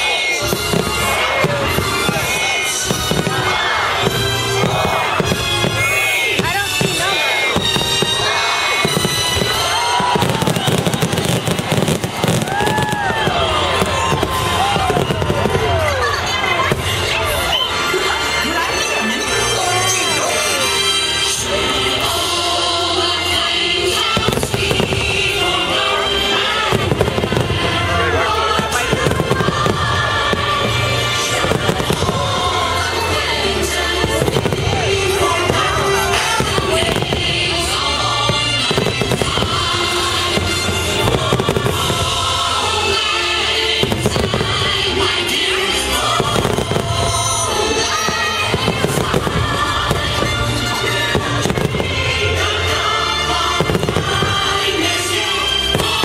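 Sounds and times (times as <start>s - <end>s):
fireworks bangs and crackles: 0.0s - 56.0s
music soundtrack: 0.0s - 56.0s.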